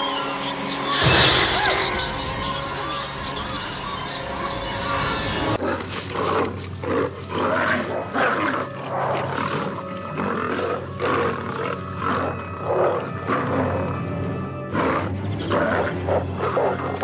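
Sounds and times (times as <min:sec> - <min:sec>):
animals growling and roaring: 0:00.0 - 0:17.0
film soundtrack music: 0:00.0 - 0:17.0.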